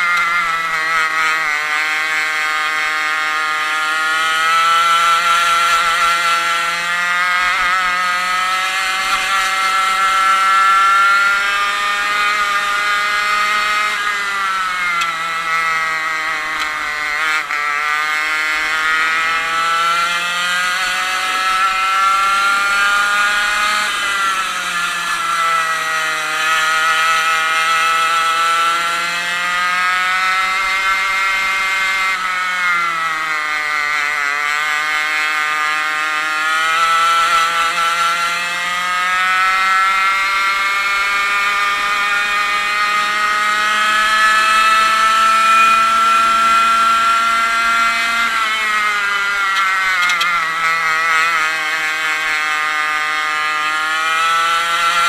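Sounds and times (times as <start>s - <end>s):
high-pitched kart engine revving: 0.0s - 55.0s.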